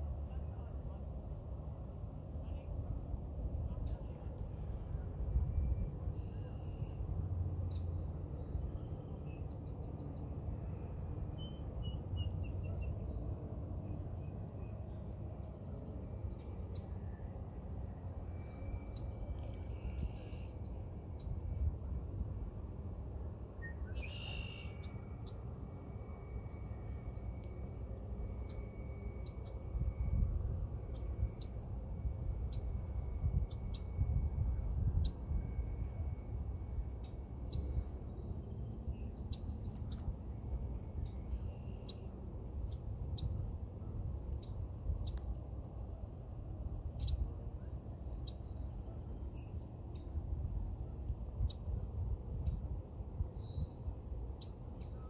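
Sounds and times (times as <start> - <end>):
insects chirping: 0.1 - 9.9, 11.3 - 55.0.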